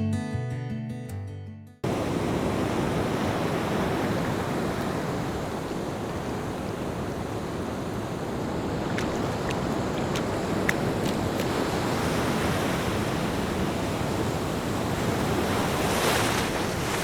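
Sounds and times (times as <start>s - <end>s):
ocean waves breaking: 1.8s - 17.0s.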